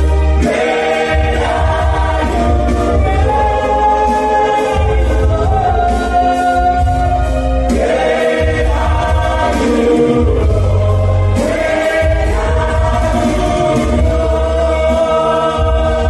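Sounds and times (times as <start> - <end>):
backing band: 0.0 - 16.0
held bass notes: 0.0 - 16.0
vocal group singing in harmony: 0.0 - 16.0.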